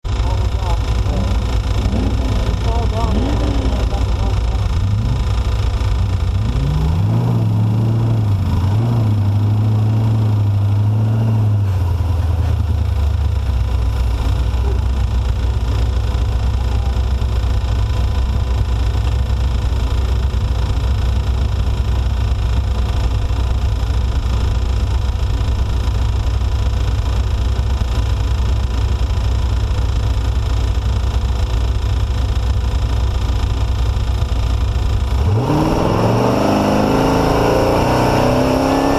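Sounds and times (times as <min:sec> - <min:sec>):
race vehicle engine running hard: 0:00.0 - 0:38.9.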